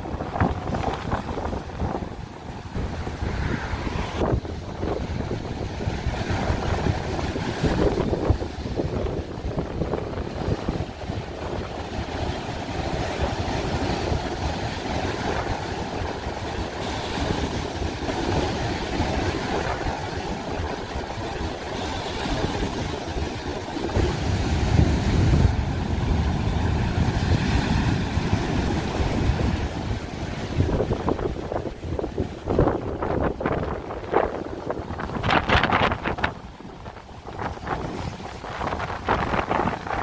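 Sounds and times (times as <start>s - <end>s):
surf breaking over boulders: 0.0s - 40.0s
wind buffeting microphone: 0.0s - 40.0s.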